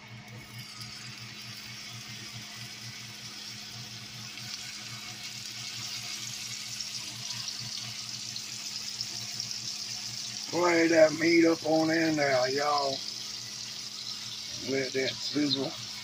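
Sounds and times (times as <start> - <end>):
patties sizzling in butter: 0.0 - 16.0.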